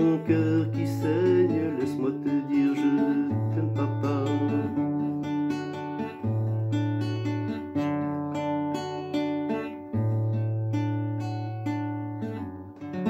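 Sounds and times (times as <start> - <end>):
classical guitar picked chords: 0.0 - 13.0.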